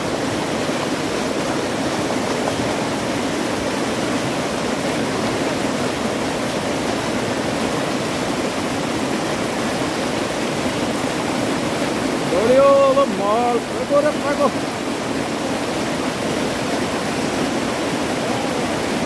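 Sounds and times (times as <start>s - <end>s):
fast-flowing river rushing: 0.0s - 19.0s.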